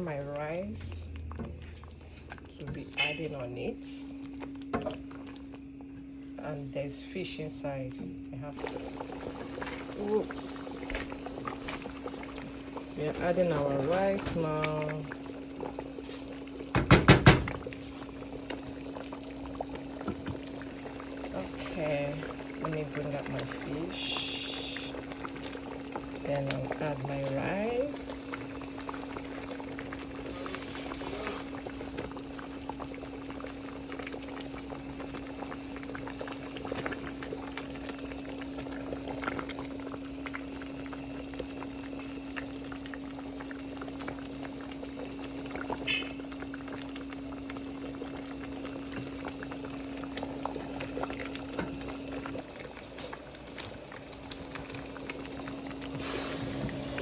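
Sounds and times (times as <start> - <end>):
pot boiling and bubbling: 0.0 - 57.0
steady low hum: 0.0 - 57.0.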